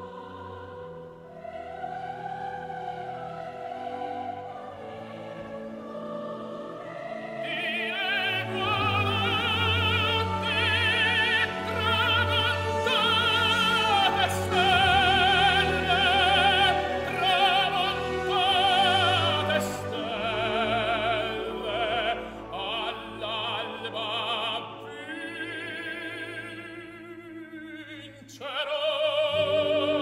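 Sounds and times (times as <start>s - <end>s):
orchestral accompaniment: 0.0s - 27.8s, 28.9s - 30.0s
operatic singing: 0.0s - 30.0s.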